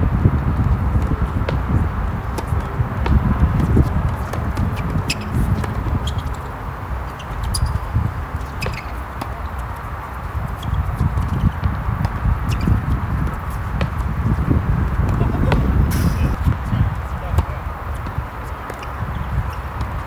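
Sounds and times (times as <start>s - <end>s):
wind rumble on microphone: 0.0s - 20.0s
tennis balls struck by racquets: 0.4s - 20.0s.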